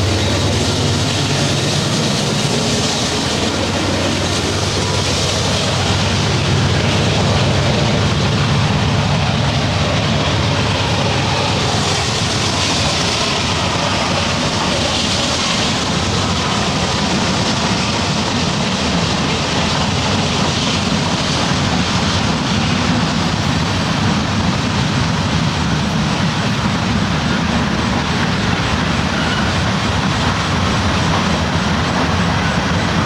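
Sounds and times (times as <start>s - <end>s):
train rumbling on tracks: 0.0s - 33.0s.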